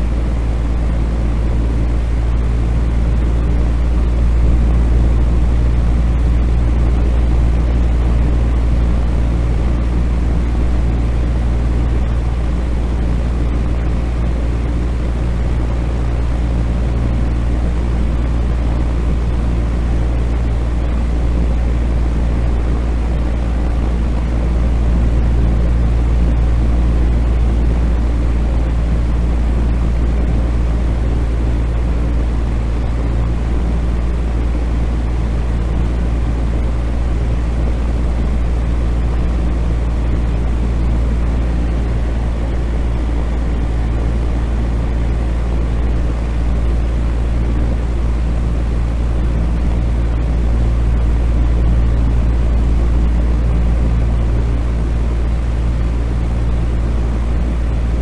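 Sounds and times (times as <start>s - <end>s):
fan humming: 0.0s - 58.0s.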